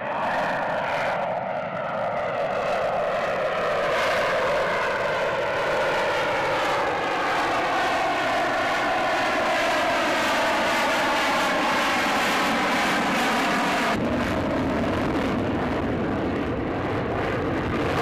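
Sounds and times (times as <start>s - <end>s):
jet roar in flight: 0.0s - 18.0s.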